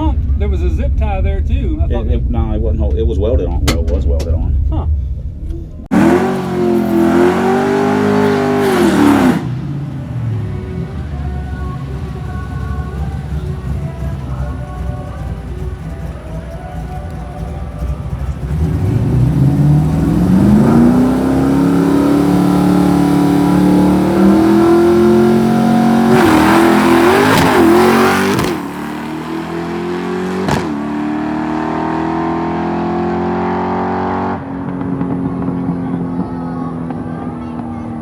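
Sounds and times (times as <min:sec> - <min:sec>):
drag car engine accelerating: 0:05.8 - 0:38.0.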